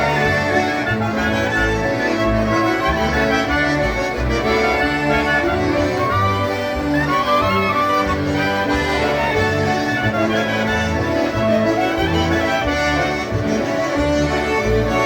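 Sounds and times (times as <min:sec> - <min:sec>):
concertinas playing a tune: 0:00.0 - 0:15.0.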